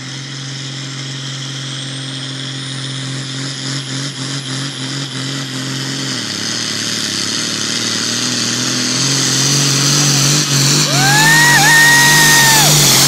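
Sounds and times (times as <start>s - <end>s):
tractor engine at high revs: 0.0s - 13.0s.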